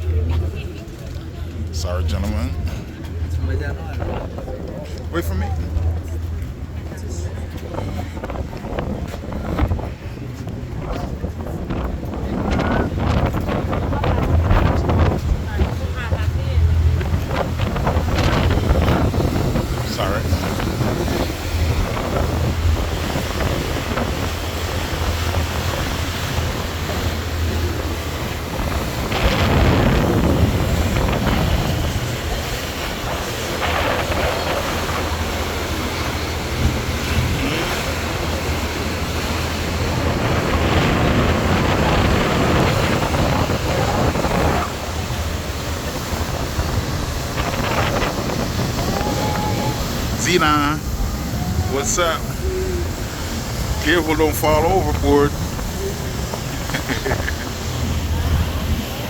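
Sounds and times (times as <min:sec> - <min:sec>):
ferry engines droning: 0:00.0 - 0:59.0
wind buffeting microphone: 0:00.0 - 0:59.0.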